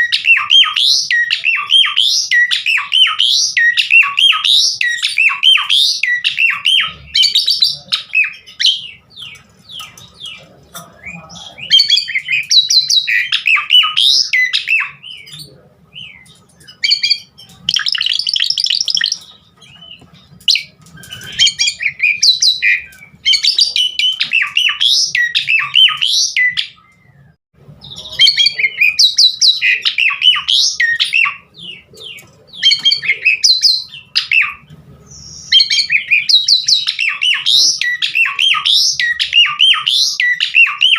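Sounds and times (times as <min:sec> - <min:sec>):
starling singing varied song: 0:00.0 - 0:27.0, 0:27.6 - 0:40.9.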